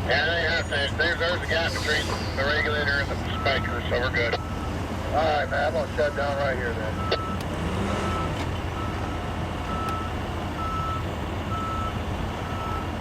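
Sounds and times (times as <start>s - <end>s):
diesel engine running: 0.0s - 13.0s
truck backup alarm beeping: 0.4s - 13.0s.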